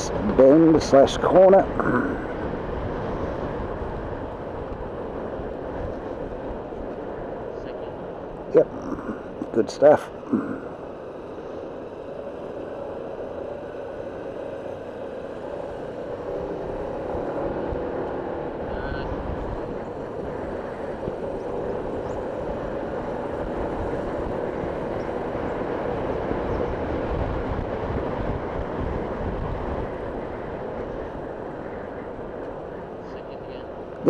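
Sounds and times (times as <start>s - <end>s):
motorcycle engine and wind rush: 0.0s - 34.0s.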